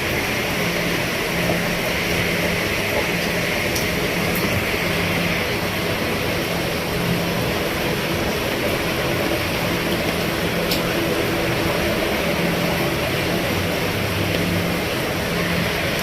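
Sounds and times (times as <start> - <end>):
rain on a roof: 0.0 - 16.0.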